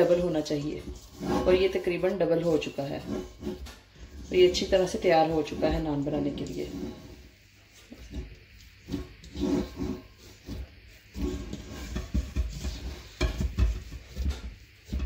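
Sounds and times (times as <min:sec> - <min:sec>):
dough squishing in metal bowl: 0:00.0 - 0:15.0.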